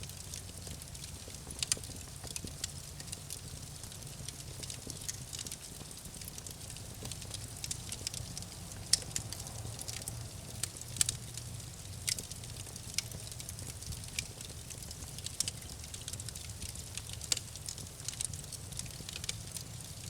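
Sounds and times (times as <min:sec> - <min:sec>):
low rumble of fire: 0:00.0 - 0:20.0
wood crackles and pops: 0:00.0 - 0:20.0.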